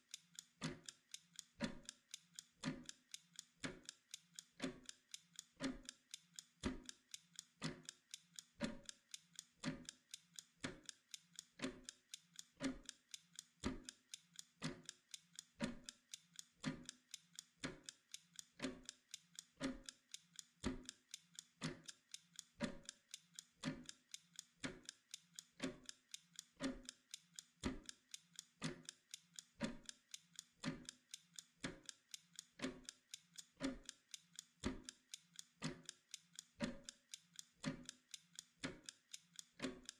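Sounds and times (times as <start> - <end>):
mechanical timer ticking: 0.0 - 39.9.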